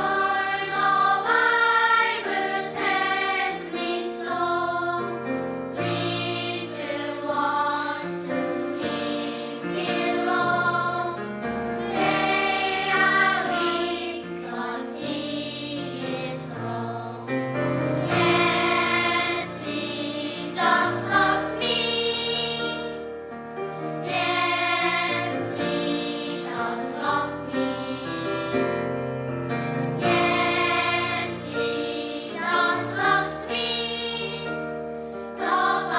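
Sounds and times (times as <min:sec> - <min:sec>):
church choir singing: 0:00.0 - 0:35.9.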